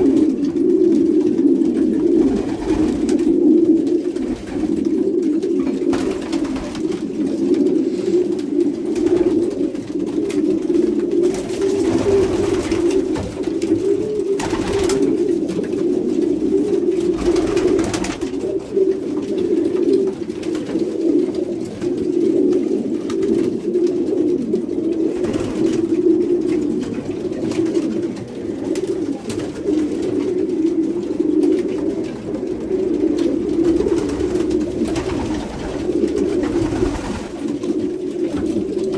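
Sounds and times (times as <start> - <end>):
pigeons cooing in chorus: 0.0 - 38.9.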